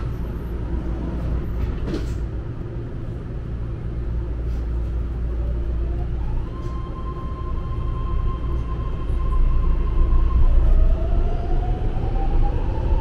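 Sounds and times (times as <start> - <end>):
train car rumbling: 0.0 - 13.0
train whine: 0.0 - 13.0.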